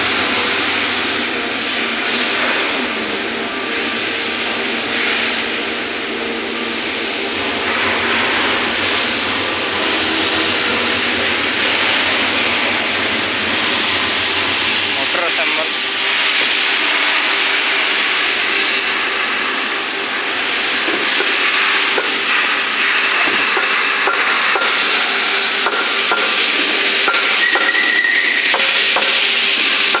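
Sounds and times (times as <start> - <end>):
machinery hiss and hum: 0.0 - 30.0.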